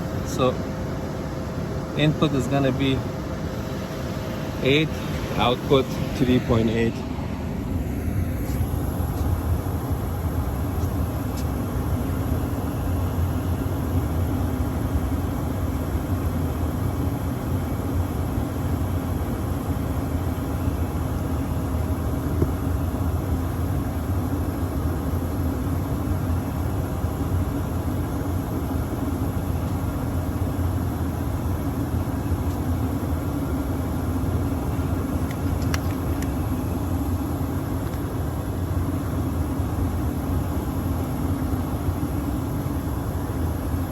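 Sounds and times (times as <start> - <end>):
hvac unit mechanical drone: 0.0 - 43.9.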